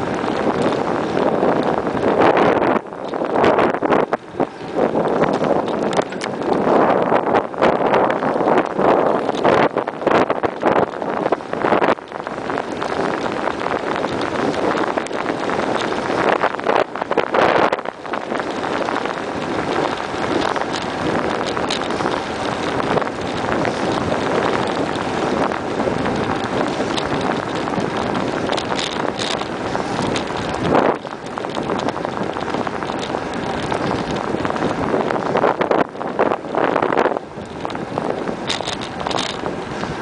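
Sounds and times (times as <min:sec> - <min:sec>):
bicycle tyre and road noise: 0:00.0 - 0:40.0
wind rushing over microphone: 0:00.0 - 0:40.0.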